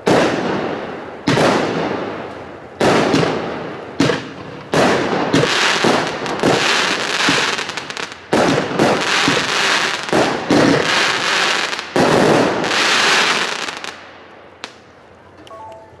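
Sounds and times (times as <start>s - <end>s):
fireworks shots and crackling bursts: 0.0s - 15.3s.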